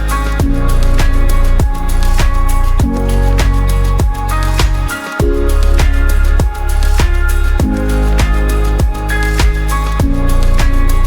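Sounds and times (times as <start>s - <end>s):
held bass notes: 0.0s - 11.0s
steady drum beat: 0.4s - 10.8s.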